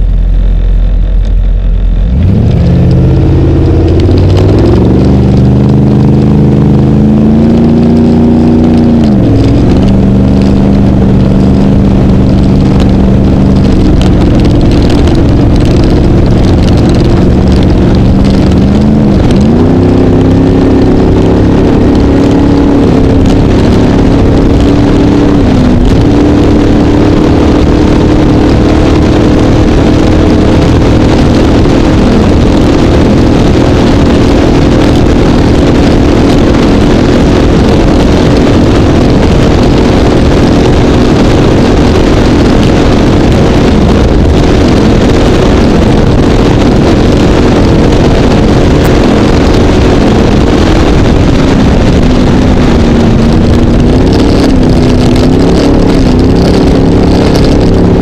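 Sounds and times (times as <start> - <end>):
boat engine running at high revs: 0.0 - 58.0
rush of wind and water: 2.0 - 58.0.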